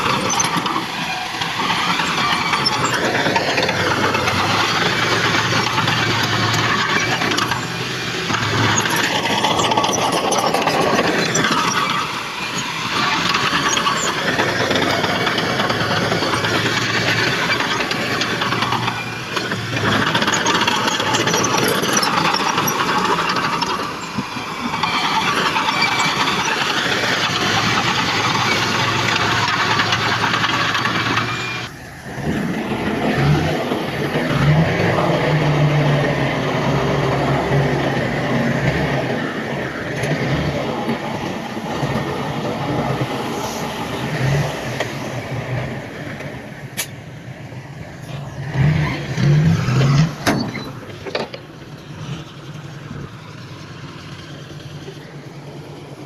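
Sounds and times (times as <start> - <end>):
diesel engine drone: 0.0 - 56.0
heavy diesel machinery under load: 0.0 - 56.0.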